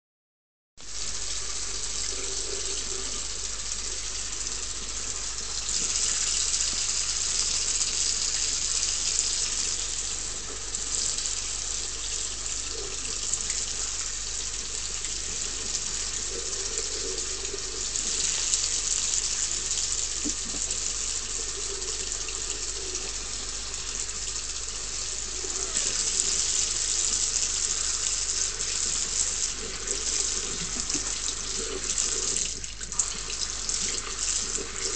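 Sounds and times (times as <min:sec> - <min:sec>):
faucet water splashing into sink: 0:04.8 - 0:24.5, 0:25.6 - 0:34.9.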